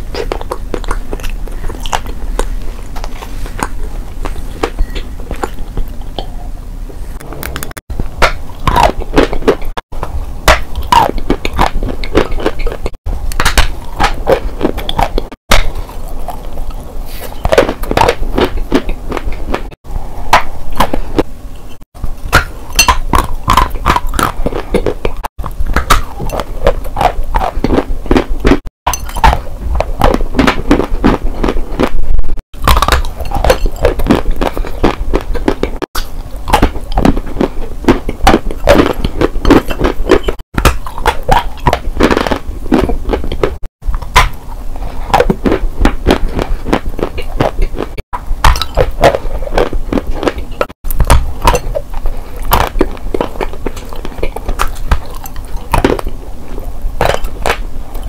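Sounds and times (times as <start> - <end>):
crunchy chewing: 0.0 - 6.4, 7.2 - 58.0.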